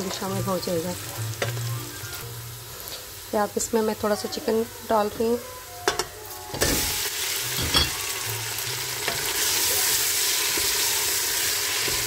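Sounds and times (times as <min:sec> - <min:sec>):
chicken and onions sizzling in oil: 0:00.0 - 0:12.0.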